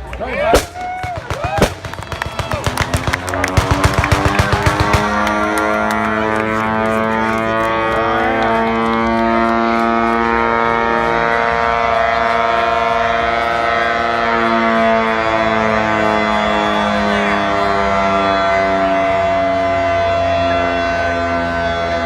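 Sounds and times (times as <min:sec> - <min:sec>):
air raid siren steady tone: 0:03.0 - 0:22.0.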